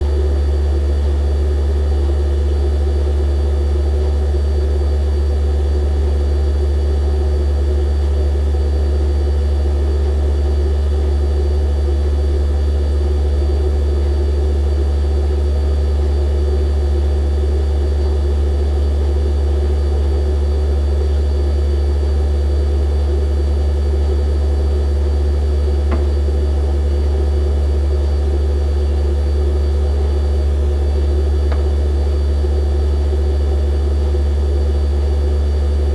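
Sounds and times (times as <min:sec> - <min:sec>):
refrigerator compressor hum: 0:00.0 - 0:35.9.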